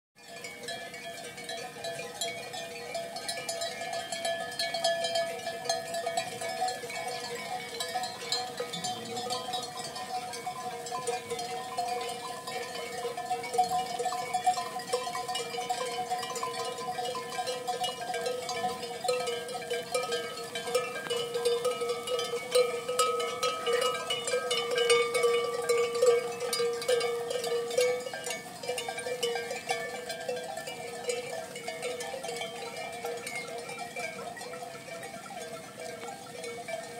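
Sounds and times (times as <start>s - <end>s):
livestock bells clanking: 0.2s - 36.9s.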